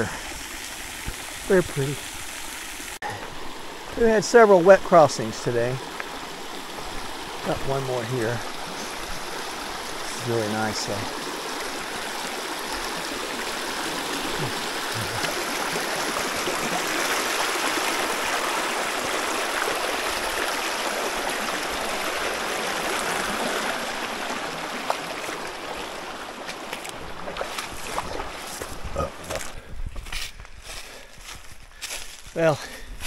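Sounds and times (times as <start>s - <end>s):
creek gurgling over rocks: 0.0s - 30.1s.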